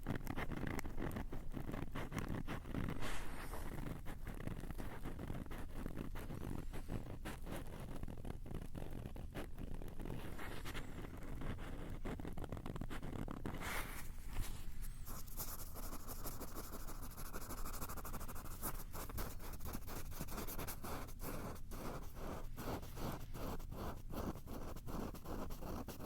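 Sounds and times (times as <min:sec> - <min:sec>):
scratching on a hard surface: 0:00.0 - 0:26.0.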